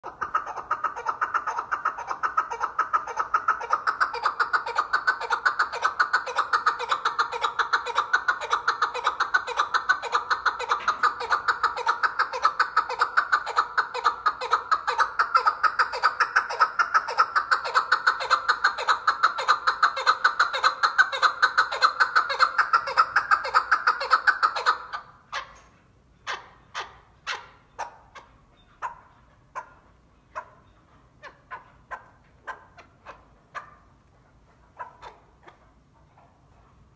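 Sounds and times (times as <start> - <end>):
partridge clucking calls: 0.0 - 33.9, 34.5 - 36.4.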